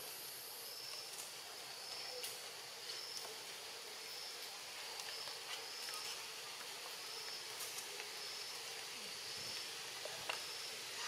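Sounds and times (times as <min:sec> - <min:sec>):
insects hissing: 0:00.0 - 0:11.0.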